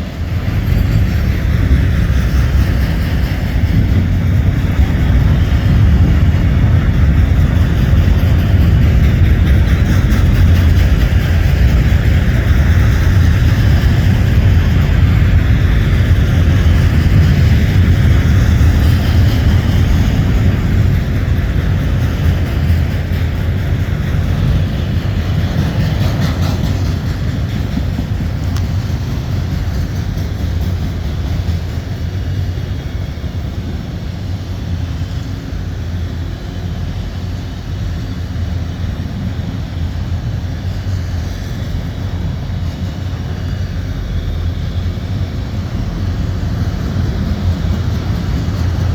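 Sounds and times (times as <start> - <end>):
freight cars rolling on rail: 0.0 - 48.9.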